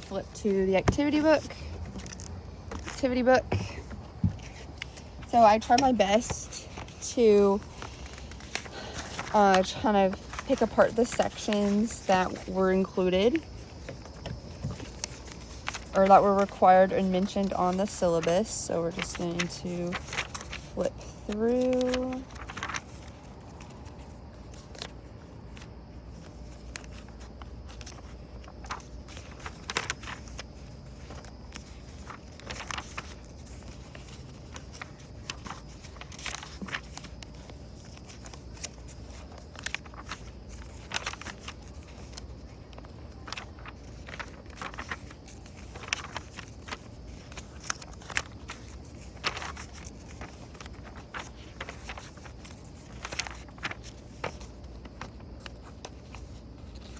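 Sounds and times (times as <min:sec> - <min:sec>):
low steady hum: 0:00.0 - 0:56.9
paper pages turning: 0:00.0 - 0:56.9.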